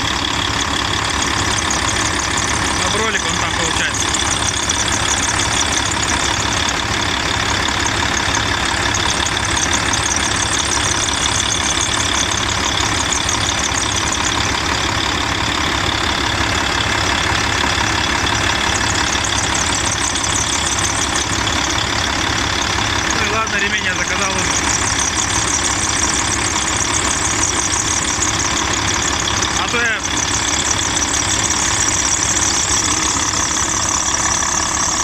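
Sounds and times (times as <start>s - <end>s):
diesel engine idling: 0.0s - 35.0s
drive belt whistle: 0.0s - 35.0s.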